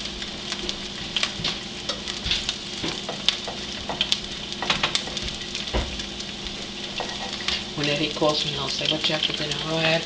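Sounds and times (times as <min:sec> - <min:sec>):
egg frying in butter: 0:00.0 - 0:10.0.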